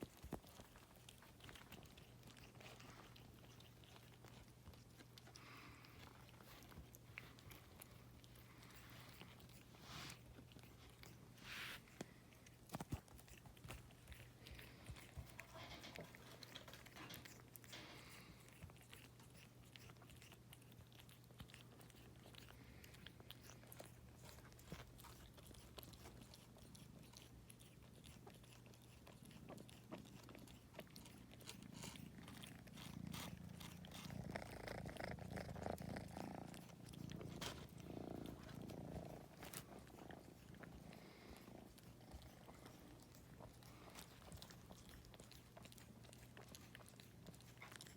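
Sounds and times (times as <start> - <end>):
cat chewing string: 0.0 - 47.9
cat purring: 0.0 - 47.9.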